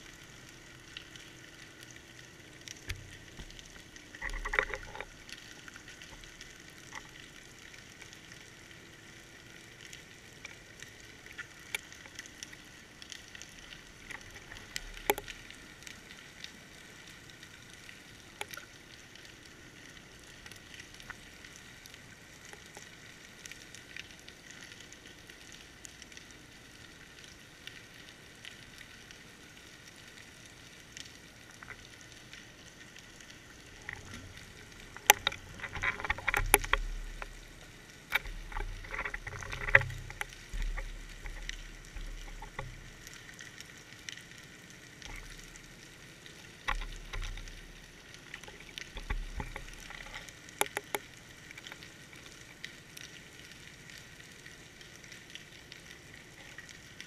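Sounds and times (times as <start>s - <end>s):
muffled underwater crackling: 0.0s - 57.0s.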